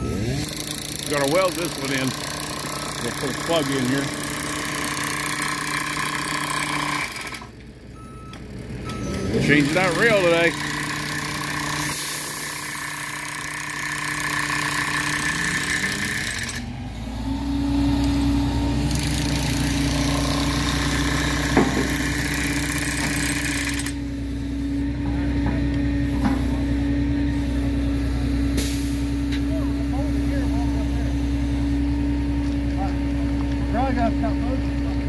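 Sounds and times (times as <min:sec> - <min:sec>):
truck engine revving: 0:00.0 - 0:35.0.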